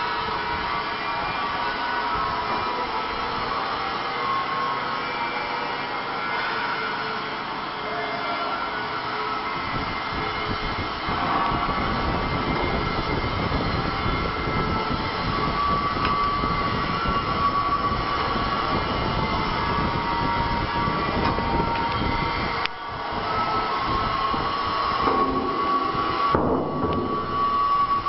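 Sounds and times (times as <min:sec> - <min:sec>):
faint whining tones: 0:00.0 - 0:28.0
washing machine running: 0:00.0 - 0:28.0.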